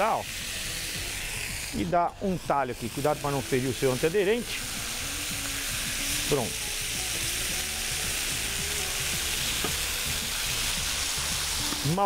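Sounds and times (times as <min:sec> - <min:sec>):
steaks sizzling in frying pan: 0:00.0 - 0:12.0.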